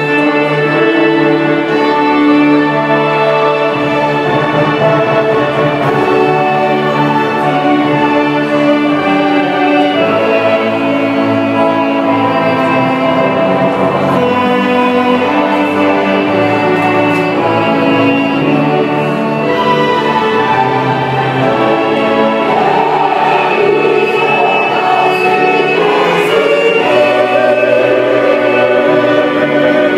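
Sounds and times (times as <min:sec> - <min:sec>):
hymn with violins: 0:00.0 - 0:29.9.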